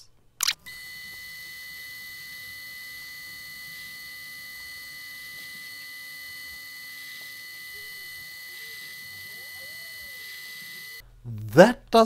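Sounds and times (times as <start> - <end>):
lathe high-pitched whine: 0.7 - 11.0.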